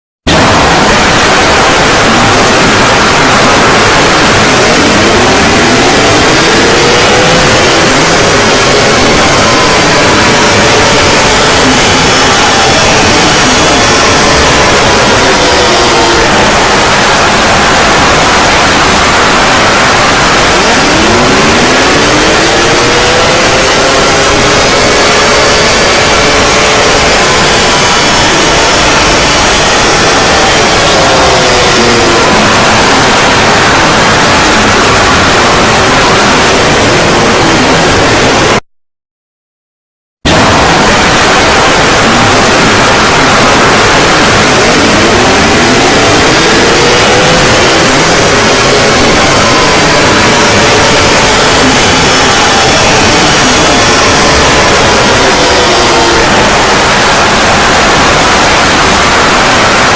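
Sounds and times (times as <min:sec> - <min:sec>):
harsh static noise: 0:00.0 - 0:38.6, 0:40.2 - 0:59.9
siren tones gliding: 0:00.3 - 0:38.6, 0:40.3 - 0:59.9.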